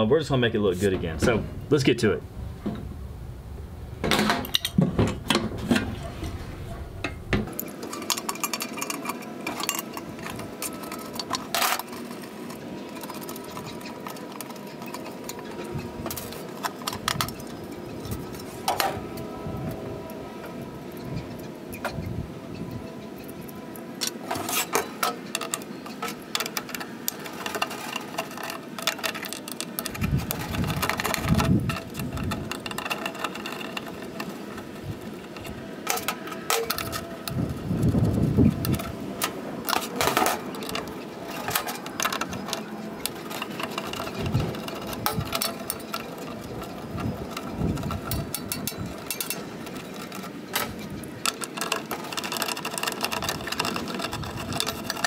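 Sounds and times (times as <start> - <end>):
charcoal shifting: 4.0 - 21.9, 23.3 - 55.0
metal clinks and scrapes: 4.1 - 55.0.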